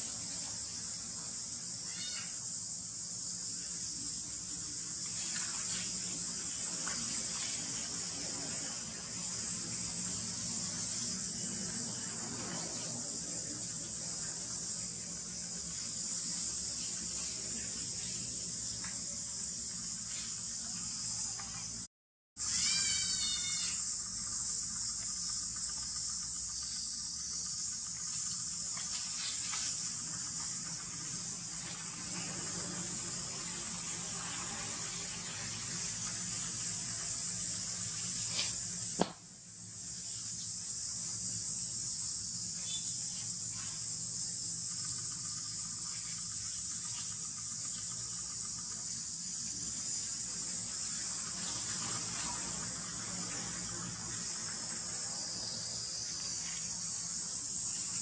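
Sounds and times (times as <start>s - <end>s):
forest insects droning: 0.0s - 58.0s.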